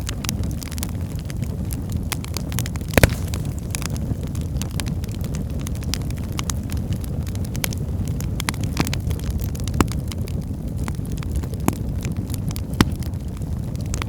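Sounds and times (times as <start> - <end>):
flames rumbling: 0.0 - 14.0
logs crackling and popping: 0.0 - 14.0.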